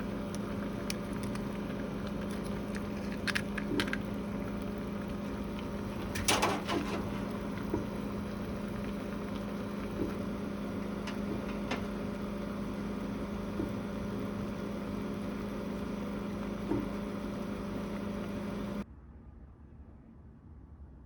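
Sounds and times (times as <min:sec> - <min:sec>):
microwave oven humming: 0:00.0 - 0:18.8.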